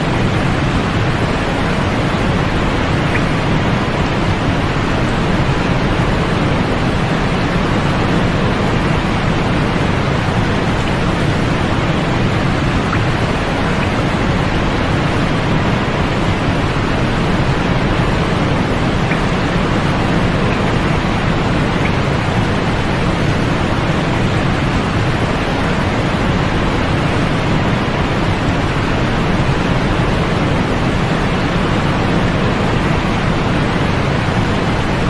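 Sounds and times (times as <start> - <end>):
constant rushing hiss: 0.0 - 35.0.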